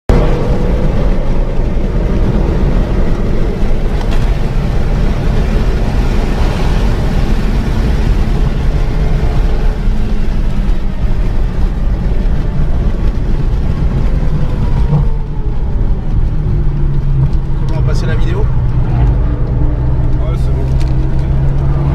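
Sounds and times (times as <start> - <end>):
car engine running at speed: 0.1 - 21.9
road and wind noise: 0.1 - 21.9.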